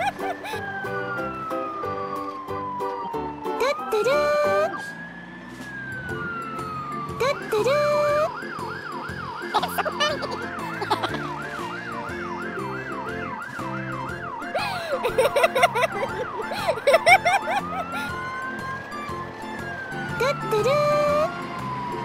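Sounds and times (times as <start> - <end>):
background music: 0.0 - 22.0
electronic wail siren: 0.0 - 22.0.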